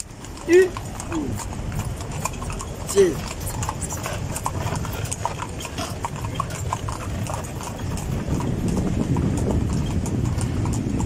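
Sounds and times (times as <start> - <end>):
hooves clip-clopping on asphalt: 0.0 - 11.0
low rumble: 0.0 - 11.0.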